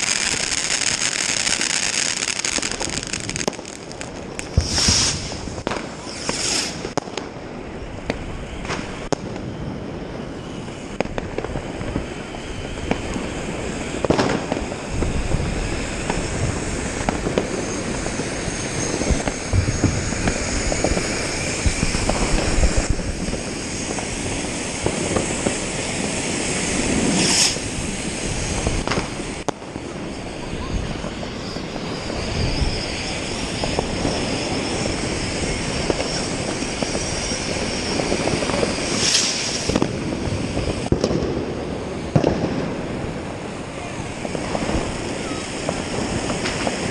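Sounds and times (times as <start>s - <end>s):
firework bangs and crackling: 0.0s - 46.9s
high whistling fireworks: 0.0s - 46.9s
loud firework burst: 0.0s - 46.9s.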